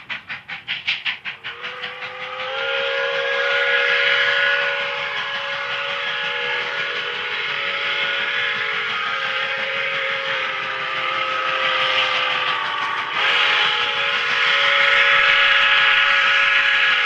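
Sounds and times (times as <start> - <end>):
locomotive working rush: 0.0 - 17.0
steam whistle chord: 2.0 - 17.0.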